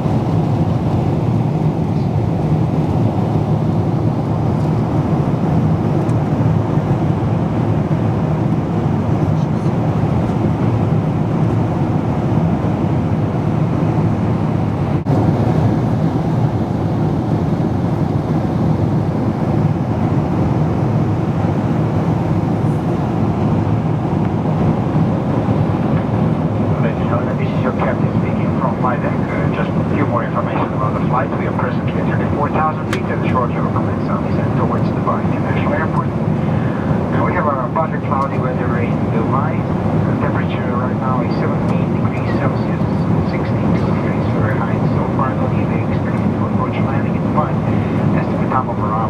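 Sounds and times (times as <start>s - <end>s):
airliner cabin engine drone: 0.0s - 49.0s.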